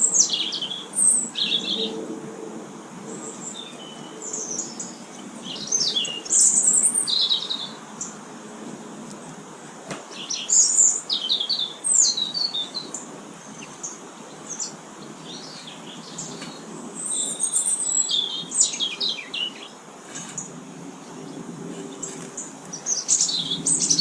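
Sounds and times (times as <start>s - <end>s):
small birds chirping: 0.0s - 2.1s, 3.0s - 8.2s, 10.1s - 24.0s.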